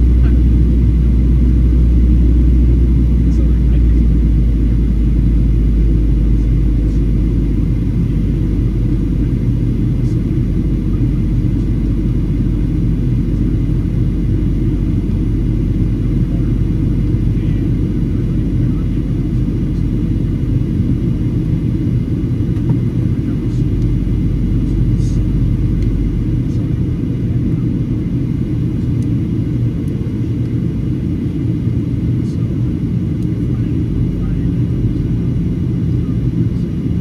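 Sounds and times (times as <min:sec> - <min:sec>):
airplane cabin low rumble: 0:00.0 - 0:37.0.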